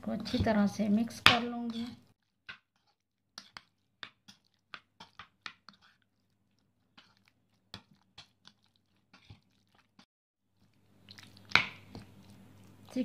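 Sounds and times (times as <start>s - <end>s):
spoon stirring wet chicken: 0.0s - 13.0s.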